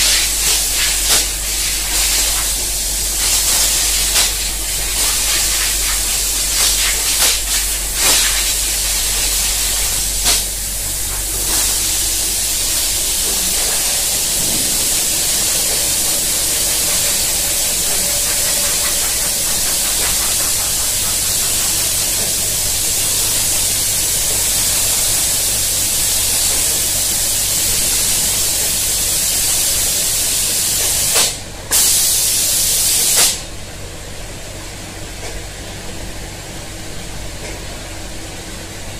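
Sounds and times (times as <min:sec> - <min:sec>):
paint spray hiss: 0:00.0 - 0:33.4.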